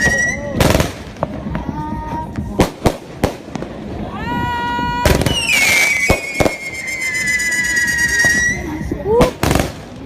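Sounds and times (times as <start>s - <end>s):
firework bangs: 0.0s - 10.0s
whistling fireworks: 0.0s - 10.0s.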